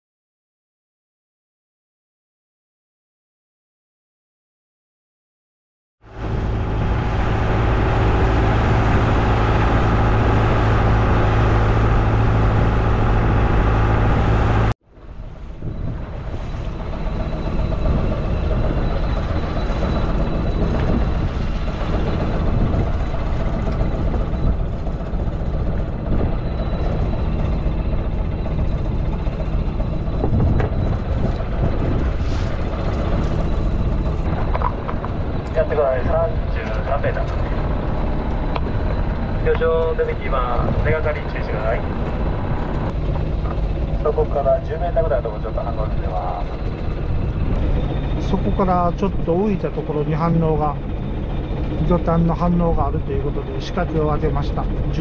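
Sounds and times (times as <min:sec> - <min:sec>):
boat engine humming: 0:06.0 - 0:55.0.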